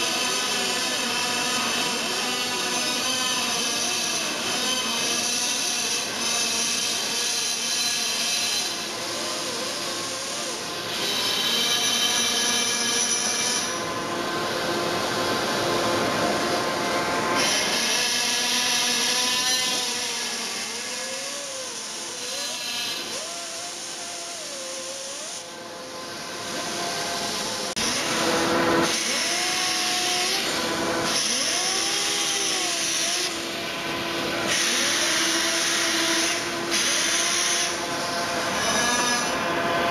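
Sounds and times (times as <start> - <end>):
air grinder hissing and whining on metal: 0.0 - 39.9.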